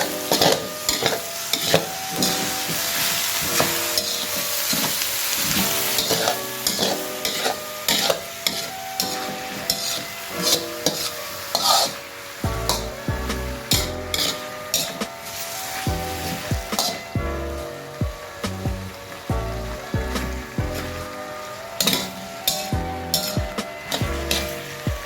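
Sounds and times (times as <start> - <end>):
metal spatula scraping pan: 0.0 - 18.0, 20.2 - 24.9
food sizzling in a pan: 0.0 - 25.0.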